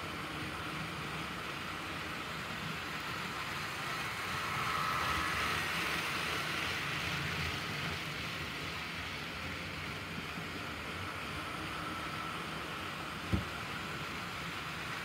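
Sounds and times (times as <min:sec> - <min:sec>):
model train whirring on track: 0:00.0 - 0:15.0.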